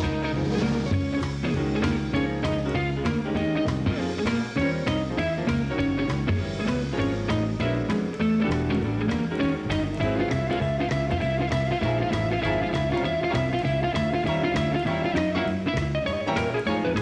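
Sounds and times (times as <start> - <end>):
electric guitar: 0.0 - 17.0
upright bass: 0.0 - 17.0.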